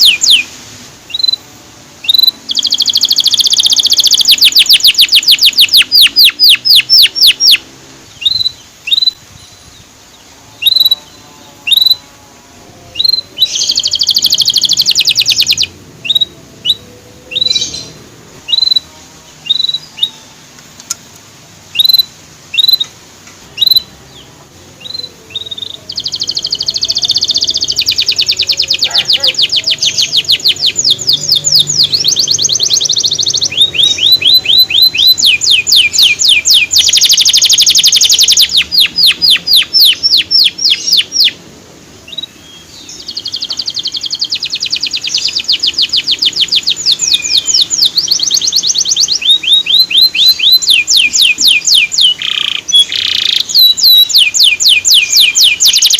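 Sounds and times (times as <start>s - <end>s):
canary singing trills: 0.0s - 21.0s, 21.7s - 55.9s.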